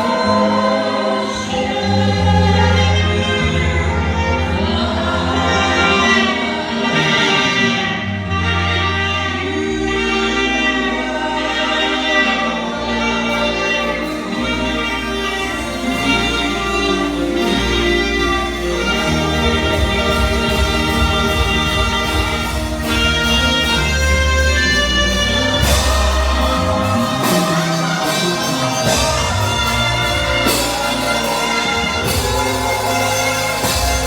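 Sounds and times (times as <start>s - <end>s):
deep bass: 0.0s - 34.0s
sustained instrumental chords: 0.0s - 34.0s
voices singing gospel: 0.0s - 34.0s.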